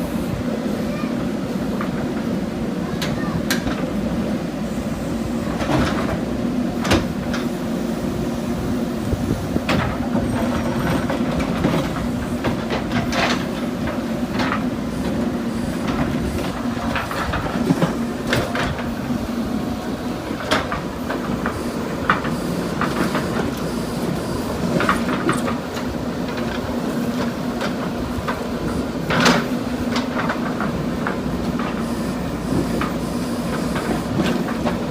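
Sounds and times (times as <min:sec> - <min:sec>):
diesel engine running: 0:00.9 - 0:34.9.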